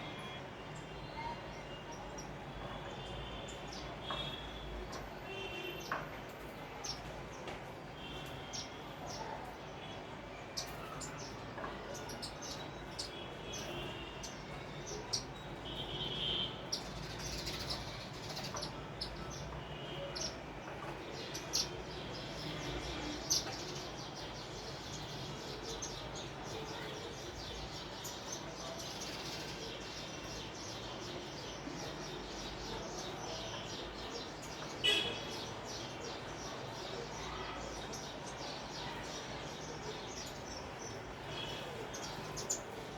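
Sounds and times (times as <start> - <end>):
sparrows chirping: 0.0 - 42.9.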